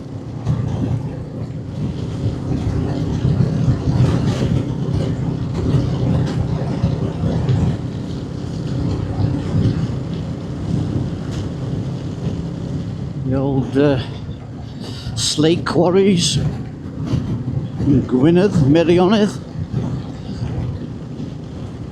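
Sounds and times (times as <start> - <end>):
motorcycle engine running: 0.0 - 21.9
wind and road noise: 0.0 - 21.9.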